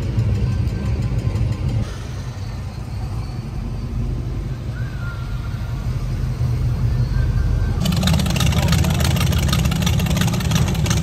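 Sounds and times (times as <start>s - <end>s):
faint whine: 0.0s - 11.0s
low vehicle rumble: 0.0s - 11.0s.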